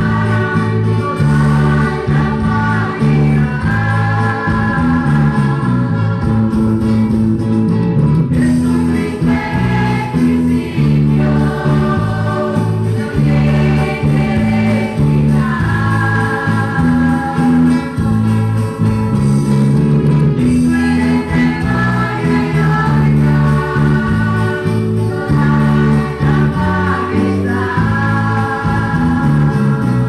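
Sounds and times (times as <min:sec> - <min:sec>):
group singing a hymn: 0:00.0 - 0:06.9, 0:08.3 - 0:19.4, 0:20.4 - 0:30.0.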